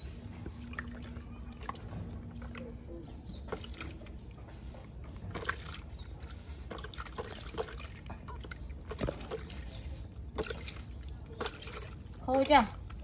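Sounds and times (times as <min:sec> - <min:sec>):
water trickling: 0:00.0 - 0:04.2, 0:05.3 - 0:13.0
water splashes and drips: 0:00.0 - 0:13.0.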